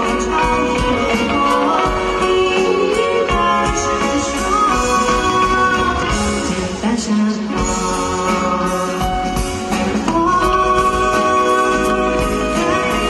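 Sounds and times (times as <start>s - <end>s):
live pop band playing: 0.0s - 13.0s
person singing lead vocal: 0.0s - 13.0s.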